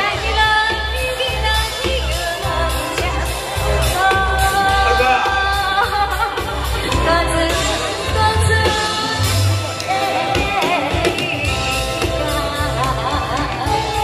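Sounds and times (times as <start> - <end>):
backing track with strong bass: 0.0 - 14.0
woman singing with vibrato: 0.0 - 14.0.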